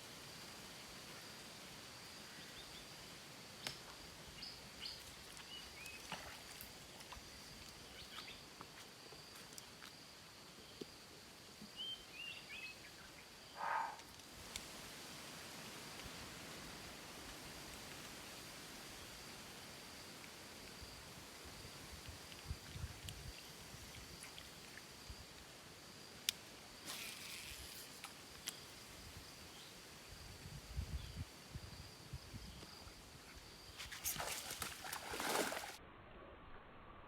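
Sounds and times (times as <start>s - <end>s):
insect drone: 0.0s - 36.8s.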